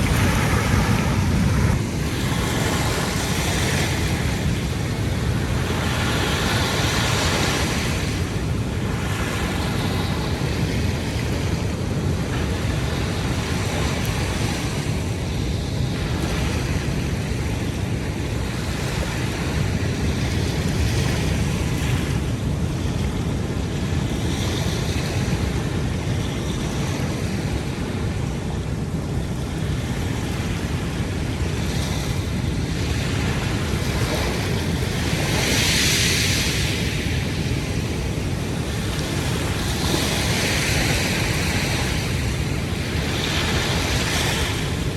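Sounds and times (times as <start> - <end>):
ocean surf washing onto beach: 0.0 - 44.9
wind rumbling on microphone: 0.0 - 44.9.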